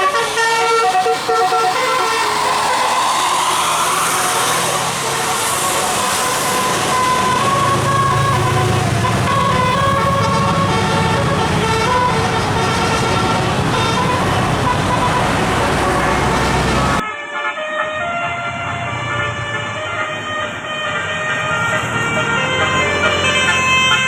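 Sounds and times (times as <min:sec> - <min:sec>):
bus engine running: 0:00.0 - 0:17.0, 0:18.5 - 0:24.0
bus musical air horn melody: 0:00.0 - 0:24.0.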